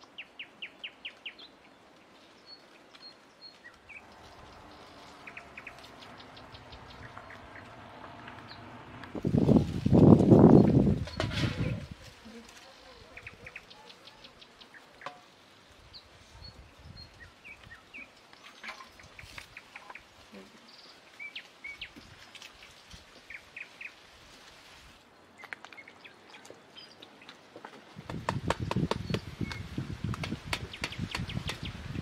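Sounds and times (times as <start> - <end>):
small birds chirping: 0.0 - 8.8, 10.0 - 24.0, 25.1 - 32.0.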